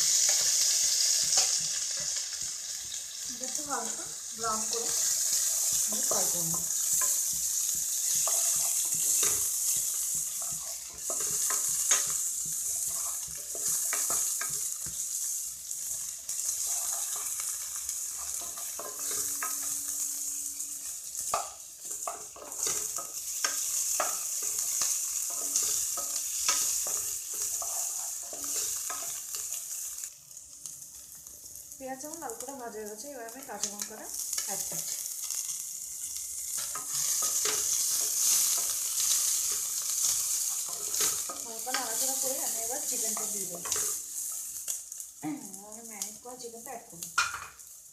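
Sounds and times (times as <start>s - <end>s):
spatula scraping pan: 0.0s - 29.9s, 34.3s - 44.7s
onions sizzling in oil: 0.0s - 47.9s.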